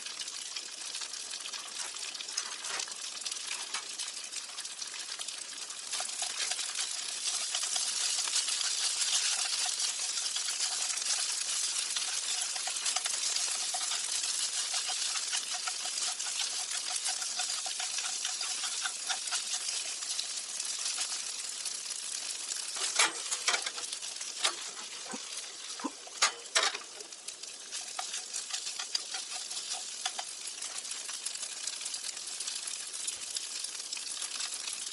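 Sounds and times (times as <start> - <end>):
crackling hiss with pops: 0.0 - 34.9.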